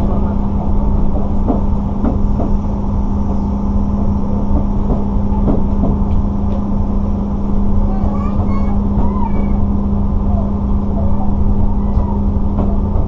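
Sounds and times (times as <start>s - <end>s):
train rumbling over tracks: 0.0s - 13.0s.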